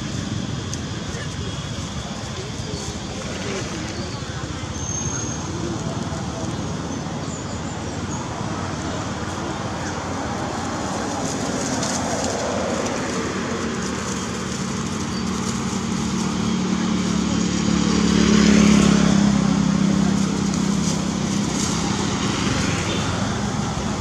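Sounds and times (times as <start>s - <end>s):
passing vehicle engine hum: 0.0s - 24.0s.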